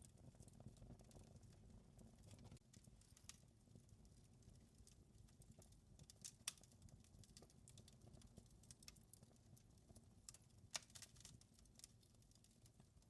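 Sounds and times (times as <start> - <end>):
low rumble of flames: 0.0 - 13.0
wood fire popping and snapping: 0.0 - 13.0.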